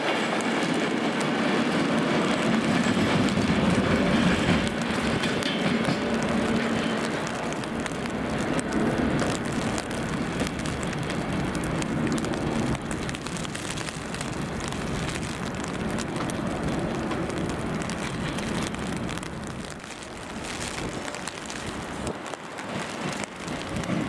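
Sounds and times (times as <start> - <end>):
rain: 0.0 - 24.0
trains running: 0.0 - 24.0
wind: 0.0 - 24.0.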